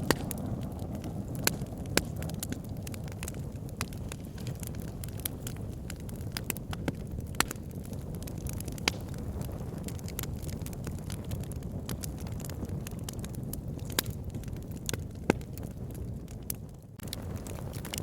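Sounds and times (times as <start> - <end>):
burning logs crackling and popping: 0.0 - 18.0
low rumble of flames: 0.0 - 18.0.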